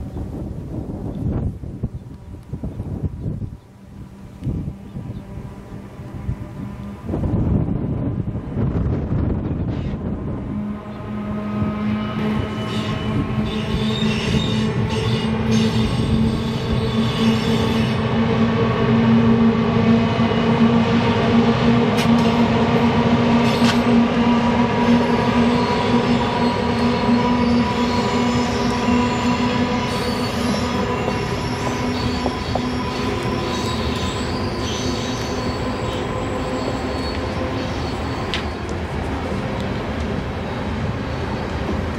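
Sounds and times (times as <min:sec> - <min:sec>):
wheels rattling on rails: 0:04.6 - 0:41.9.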